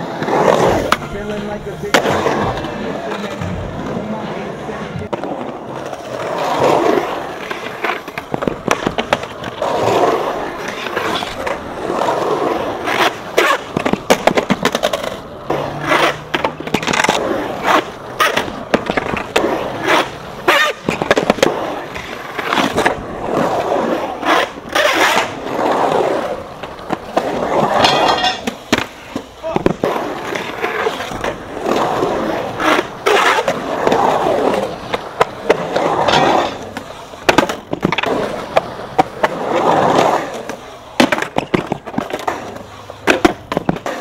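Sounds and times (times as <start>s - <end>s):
skateboard wheels rolling on concrete: 0.0s - 44.0s.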